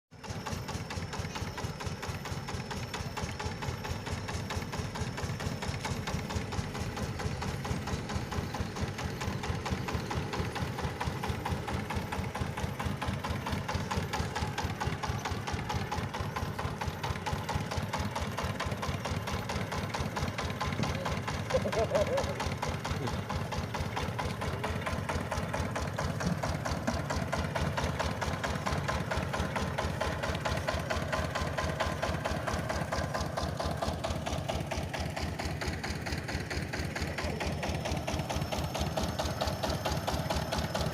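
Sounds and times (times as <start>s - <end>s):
diesel engine running steadily: 0.1s - 40.9s.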